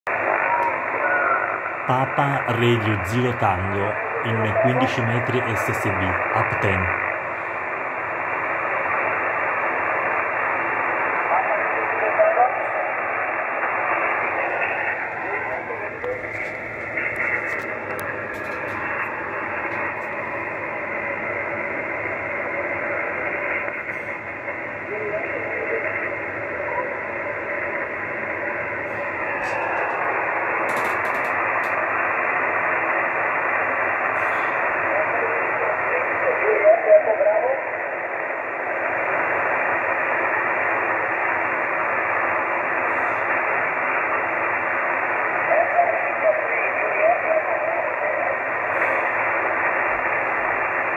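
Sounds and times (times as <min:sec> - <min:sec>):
radio band noise hiss: 0:00.1 - 0:50.9.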